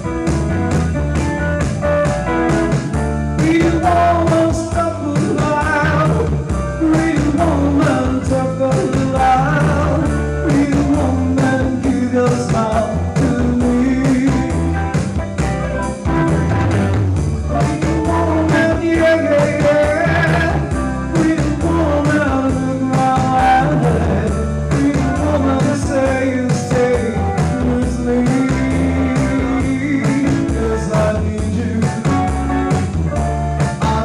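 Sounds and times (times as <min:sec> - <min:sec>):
bass: 0:00.0 - 0:34.0
electric guitar: 0:00.0 - 0:34.0
steady beat: 0:00.0 - 0:34.0
man singing: 0:03.2 - 0:15.2, 0:17.5 - 0:34.0.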